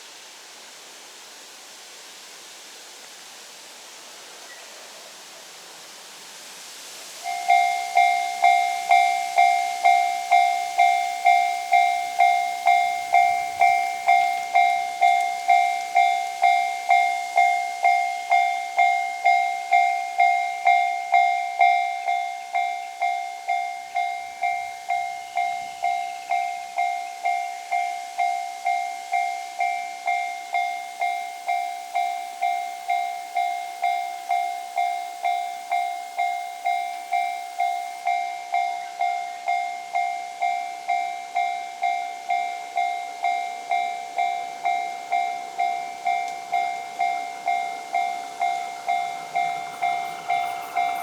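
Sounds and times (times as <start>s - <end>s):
faint hiss: 0.0s - 51.0s
railroad crossing bell: 3.1s - 51.0s.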